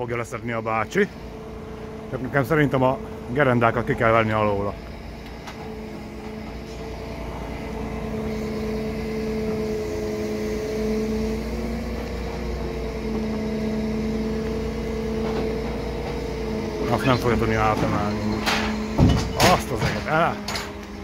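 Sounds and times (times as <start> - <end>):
wheel loader diesel engine: 0.0 - 21.0.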